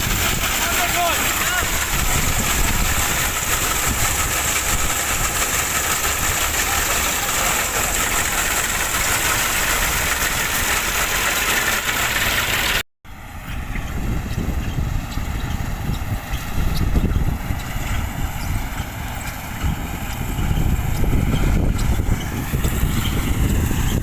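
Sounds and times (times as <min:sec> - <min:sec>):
combine harvester drone: 0:00.0 - 0:24.0.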